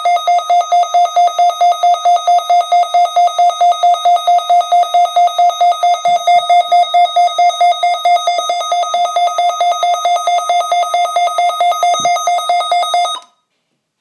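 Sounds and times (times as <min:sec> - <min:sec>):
pulsing electronic alarm beep: 0:00.0 - 0:13.3.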